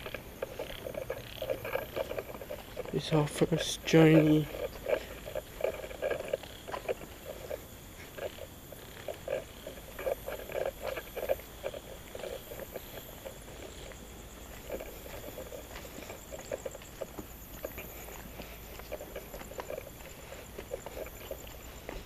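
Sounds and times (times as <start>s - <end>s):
footsteps on concrete: 0.0s - 22.0s
high-pitched insect chorus: 0.0s - 22.0s.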